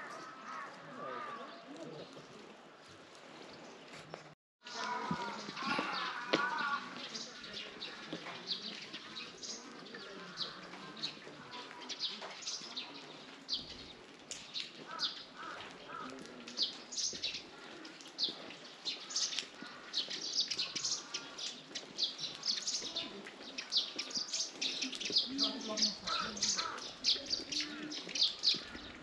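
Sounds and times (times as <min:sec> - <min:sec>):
small birds chirping: 0:03.4 - 0:29.0.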